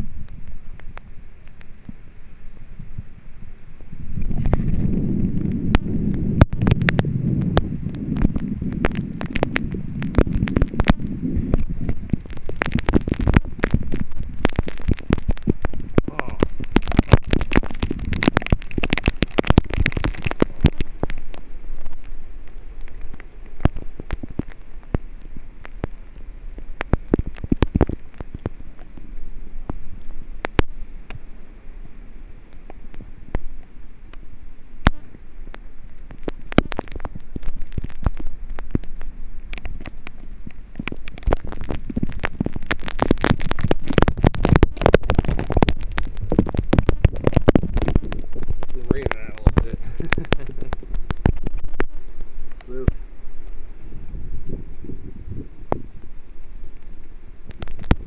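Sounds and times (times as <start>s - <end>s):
sharp raindrop hits: 0.0s - 31.6s, 32.3s - 58.0s
hard rain falling: 0.0s - 58.0s
wind rumbling: 0.0s - 58.0s.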